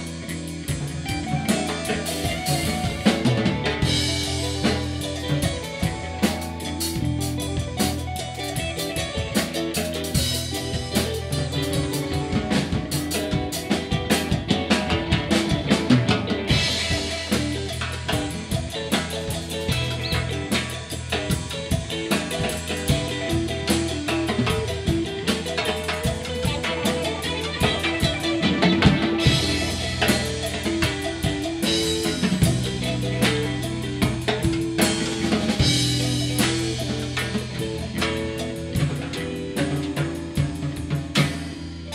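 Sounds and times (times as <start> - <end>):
drum kit fast busy hits: 0.0 - 41.9
electric bass: 0.0 - 41.9
electric guitar: 0.0 - 41.9
rock band playing: 0.0 - 41.9.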